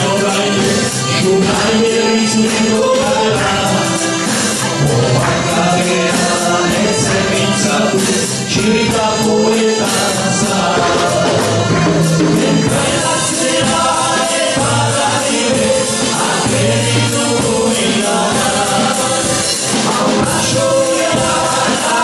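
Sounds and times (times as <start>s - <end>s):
accordion: 0.0s - 22.0s
drum kit: 0.0s - 22.0s
trumpet: 0.0s - 22.0s.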